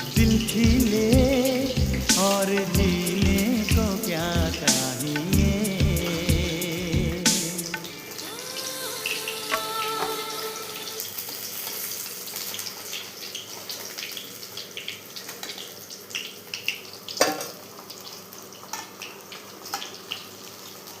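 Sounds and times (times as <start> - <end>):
flatbread sizzling in oil: 0.0 - 21.0.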